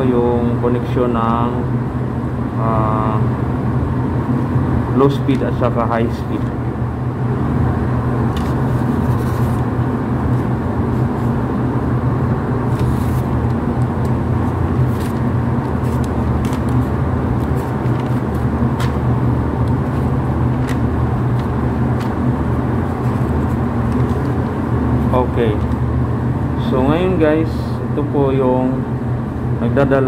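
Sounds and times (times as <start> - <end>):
machinery droning: 0.0 - 30.0.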